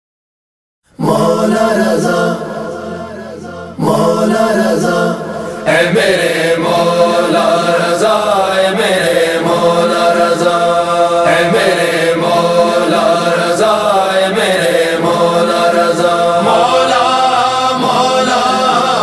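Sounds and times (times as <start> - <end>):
male chorus chanting: 1.0 - 19.0
low steady drone: 1.2 - 19.0.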